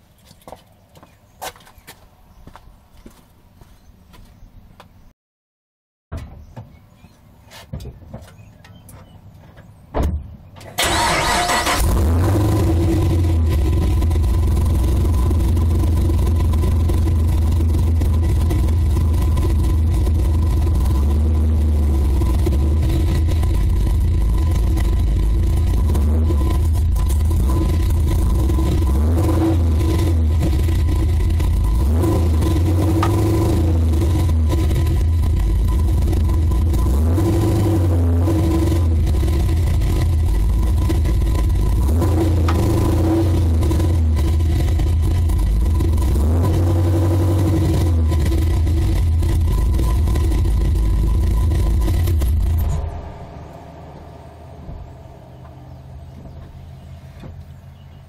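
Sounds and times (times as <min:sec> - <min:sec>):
car engine low rumble: 0:06.2 - 0:58.0.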